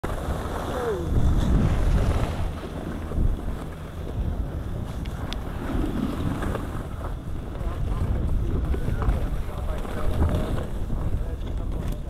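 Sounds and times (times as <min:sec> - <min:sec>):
skis sliding over snow: 0:00.0 - 0:12.0
wind buffeting microphone: 0:00.0 - 0:12.0.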